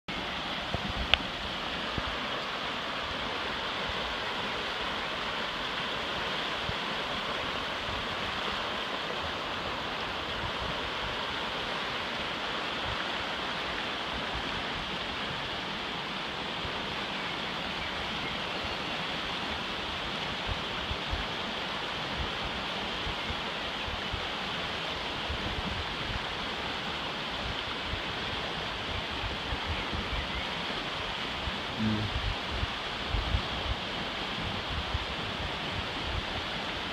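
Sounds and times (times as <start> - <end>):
white water rushing over rocks: 0.1 - 36.9.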